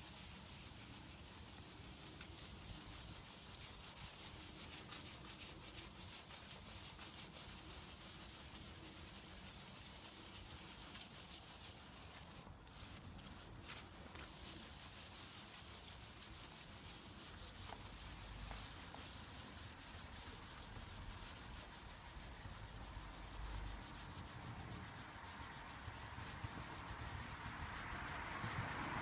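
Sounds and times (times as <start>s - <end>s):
wipe scrubbing a surface: 0.0s - 29.0s.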